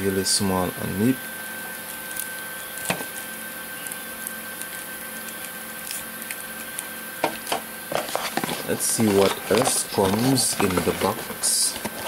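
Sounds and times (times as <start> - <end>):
constant hum: 0.0 - 12.0
plastic wrapping rustling: 1.7 - 12.0.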